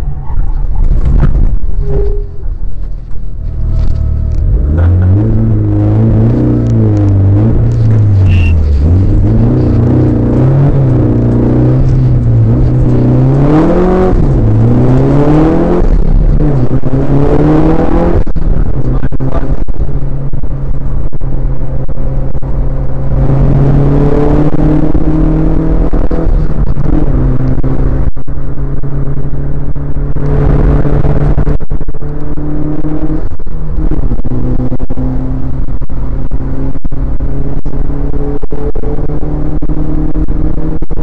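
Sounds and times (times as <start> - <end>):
car engine accelerating hard: 0.0 - 41.0.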